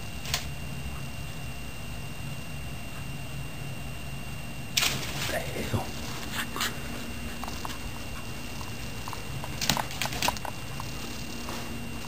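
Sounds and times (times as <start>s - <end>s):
faint steady high whine: 0.0s - 12.0s.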